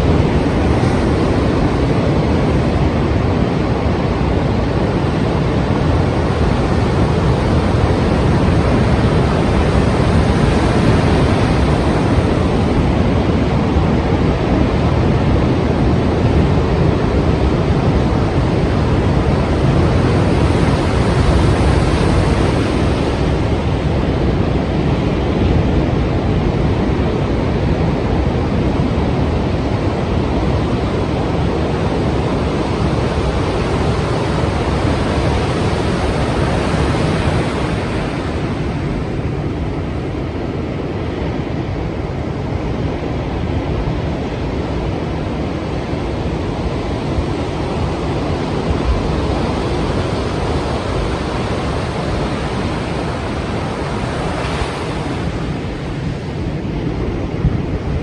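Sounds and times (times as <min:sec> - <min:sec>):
sea waves breaking: 0:00.0 - 0:58.0
wind: 0:00.0 - 0:58.0.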